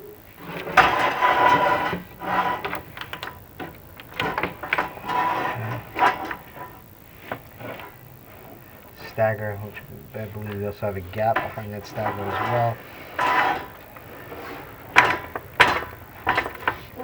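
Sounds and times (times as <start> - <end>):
camera cable scraping on tiles: 0.4 - 8.9, 10.4 - 17.0.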